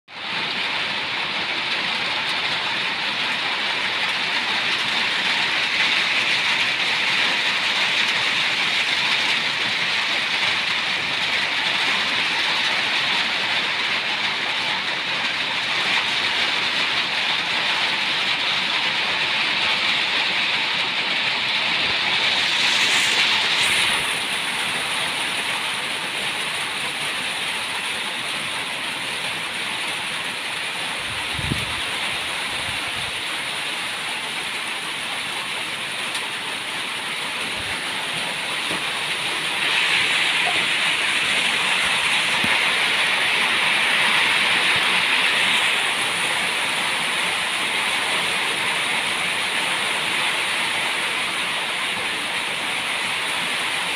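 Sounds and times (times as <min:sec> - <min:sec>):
steady rain falling: 0:00.1 - 0:53.9.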